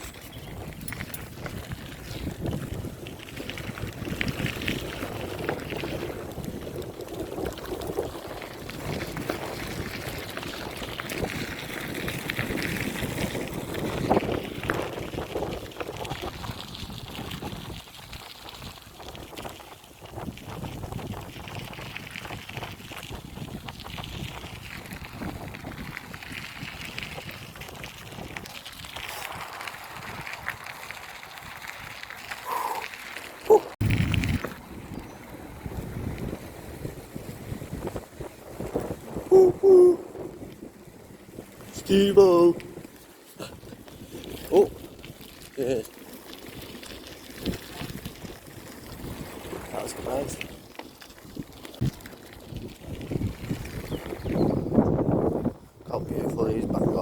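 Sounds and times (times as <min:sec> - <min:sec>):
wind rushing over microphone: 0:00.0 - 0:30.7, 0:33.5 - 0:45.8, 0:51.2 - 0:57.0
bicycle road noise: 0:00.0 - 0:57.0.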